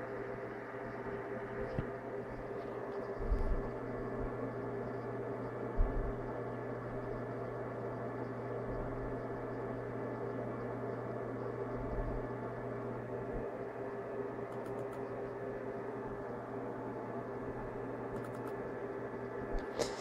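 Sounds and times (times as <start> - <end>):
computer fans humming: 0.0 - 20.0.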